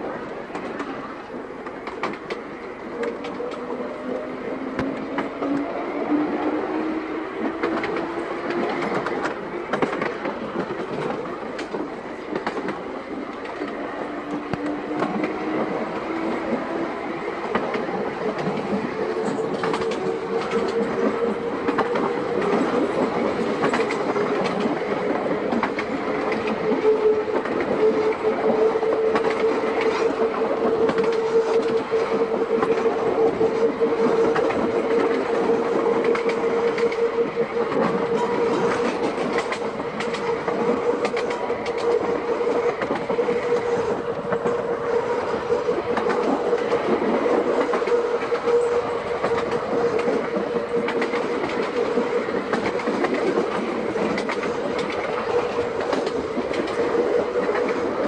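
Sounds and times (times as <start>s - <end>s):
tram motor whine: 0.0s - 58.0s
tram wheels clicking over rail joints: 0.0s - 58.0s.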